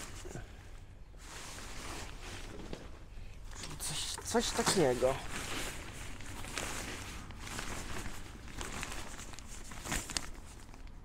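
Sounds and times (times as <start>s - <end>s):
fabric rustling and crinkling: 0.0s - 11.0s.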